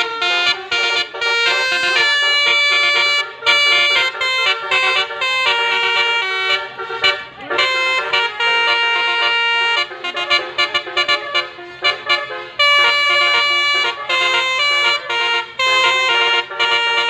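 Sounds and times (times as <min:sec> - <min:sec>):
bus air horns tooting melody: 0:00.0 - 0:17.0.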